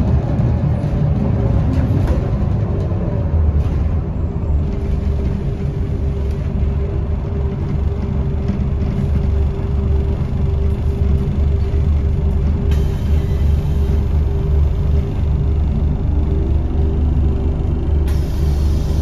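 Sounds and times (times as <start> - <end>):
bus engine and road rumble: 0.0 - 19.0
steady whine: 3.6 - 19.0.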